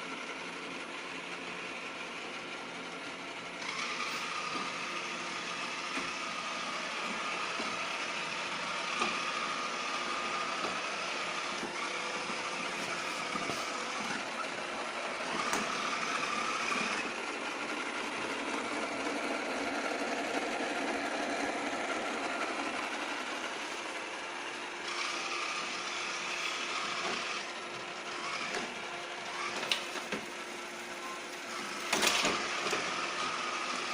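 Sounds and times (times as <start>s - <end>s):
robot vacuum motor whir: 0.0s - 33.9s.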